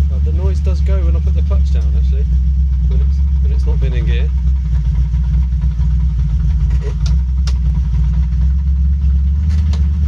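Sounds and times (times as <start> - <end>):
car engine idling drone: 0.0 - 10.0.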